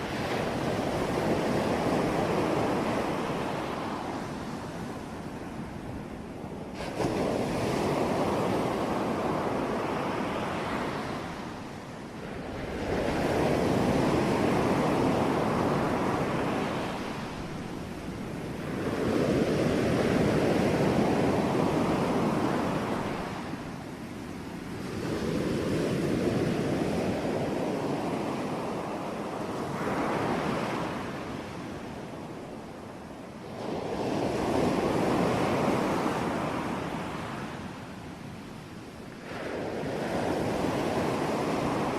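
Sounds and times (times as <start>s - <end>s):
sea waves breaking on shore: 0.0s - 41.9s.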